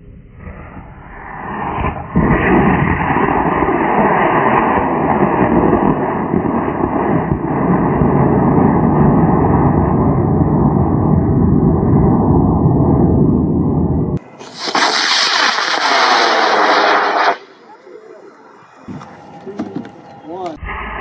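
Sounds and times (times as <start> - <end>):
rocket motor exhaust rushing: 1.1 - 20.4.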